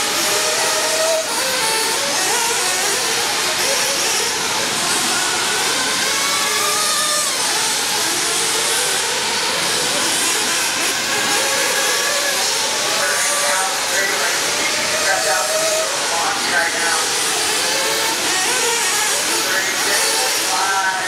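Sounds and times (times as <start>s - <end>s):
radio-controlled car motors: 0.0s - 21.0s.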